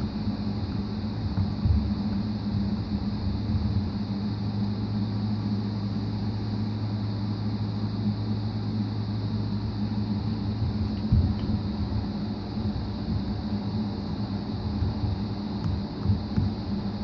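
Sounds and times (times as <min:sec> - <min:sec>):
motor humming with hiss: 0:00.0 - 0:17.0.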